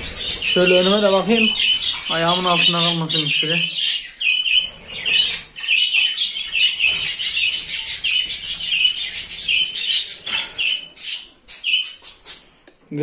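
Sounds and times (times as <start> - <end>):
budgerigars chattering: 0.0 - 12.6.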